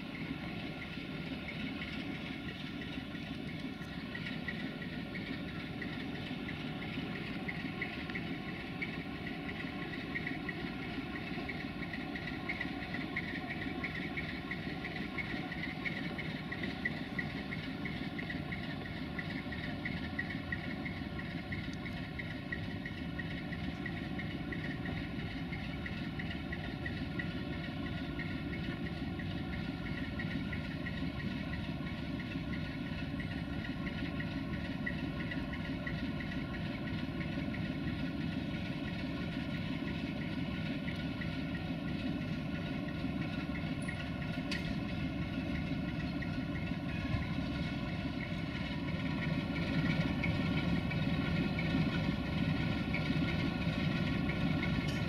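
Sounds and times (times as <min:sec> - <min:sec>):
locomotive diesel engine idling: 0:00.0 - 0:55.0.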